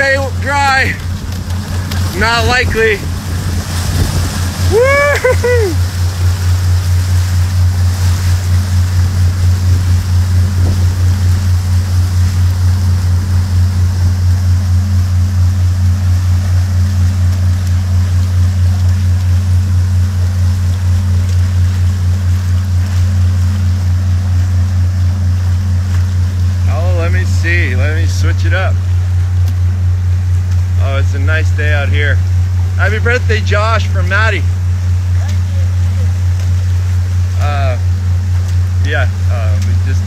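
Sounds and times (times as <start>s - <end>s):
paddlewheel churning water: 0.0s - 40.0s
rushing wake water: 0.0s - 40.0s.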